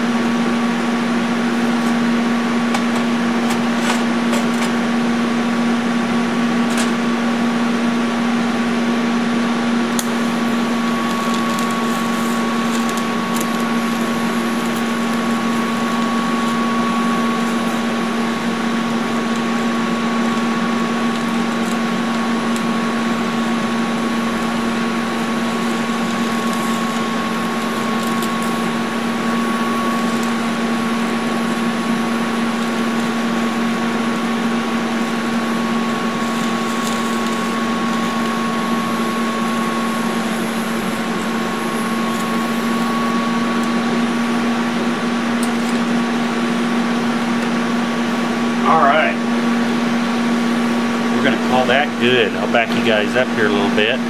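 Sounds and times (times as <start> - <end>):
welding set electrical hum: 0.0 - 54.0.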